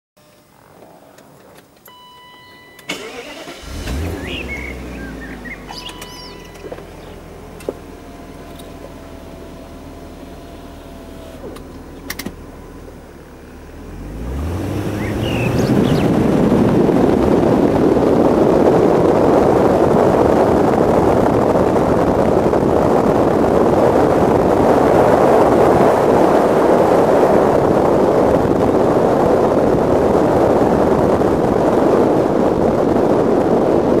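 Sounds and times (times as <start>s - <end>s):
car engine idling and revving: 0.2s - 34.0s
wind buffeting microphone: 3.0s - 34.0s.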